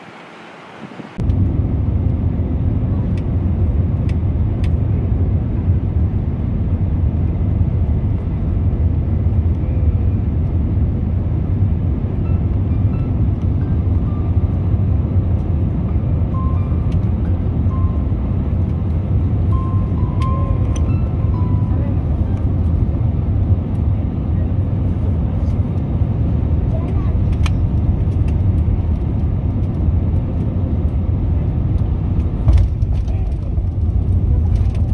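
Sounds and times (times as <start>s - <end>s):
airliner engines rumbling: 0.0s - 34.9s
rushing airflow: 0.0s - 34.9s.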